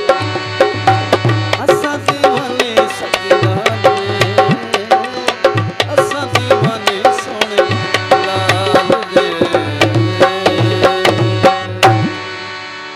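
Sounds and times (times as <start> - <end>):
tabla played fast: 0.0 - 12.6
harmonium: 0.0 - 12.9.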